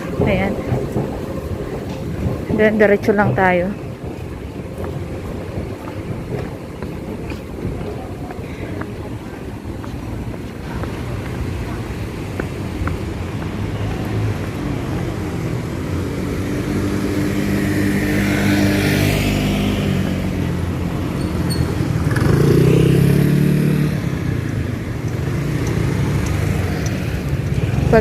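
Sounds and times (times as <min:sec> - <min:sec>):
vehicles passing: 0:00.0 - 0:28.0.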